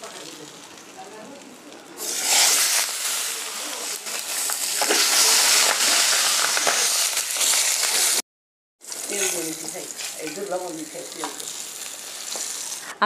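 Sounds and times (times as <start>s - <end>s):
hot oil sizzling: 0.0s - 8.2s, 8.8s - 13.0s.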